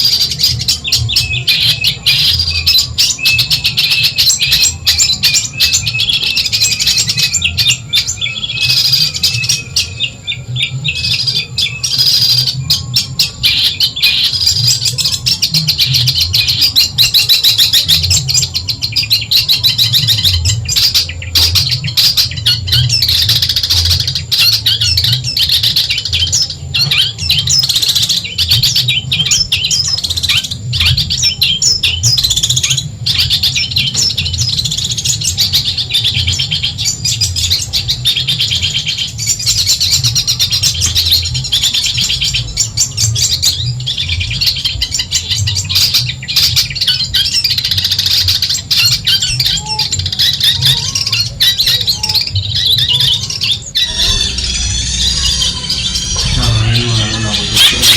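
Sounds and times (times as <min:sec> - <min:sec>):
bird chattering song: 0:00.0 - 0:57.9.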